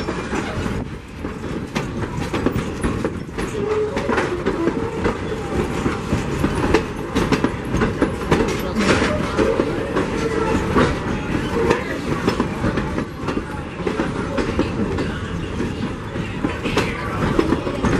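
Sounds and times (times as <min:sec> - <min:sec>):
train rumble: 0:00.0 - 0:17.9
train wheels clattering on track: 0:00.0 - 0:17.9.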